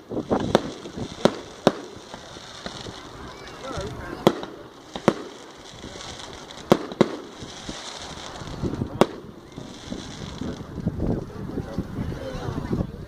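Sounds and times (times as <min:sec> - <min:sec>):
steady hiss: 0:00.0 - 0:11.2
fireworks bangs: 0:00.0 - 0:11.7.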